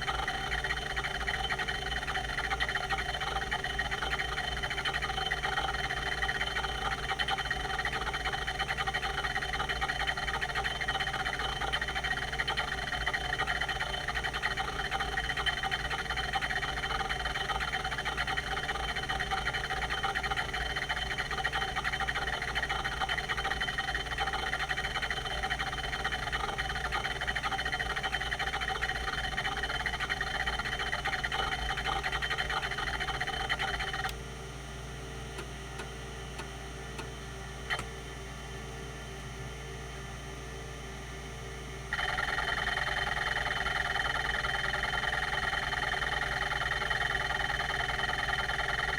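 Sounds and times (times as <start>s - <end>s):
hard drive seeking chatter: 0.0s - 38.5s, 41.9s - 48.9s
hard drive spindle hum: 0.0s - 48.9s.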